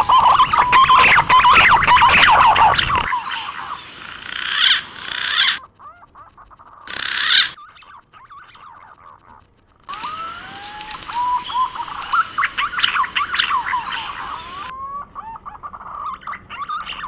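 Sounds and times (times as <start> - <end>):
pigeons whistling calls: 0.0 - 6.1, 6.9 - 8.8, 9.9 - 17.0.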